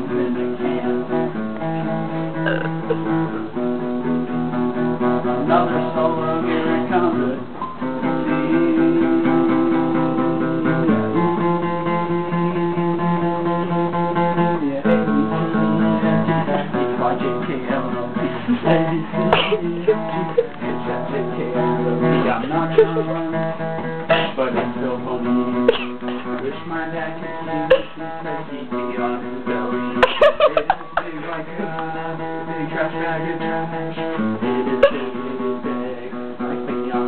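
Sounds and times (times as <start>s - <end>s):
guitar strumming chords: 0.0s - 37.0s.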